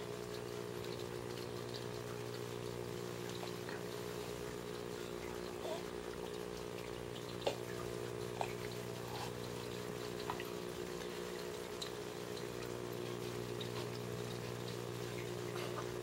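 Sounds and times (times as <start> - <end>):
aquarium pumps humming: 0.0 - 16.0
water trickling: 0.0 - 16.0.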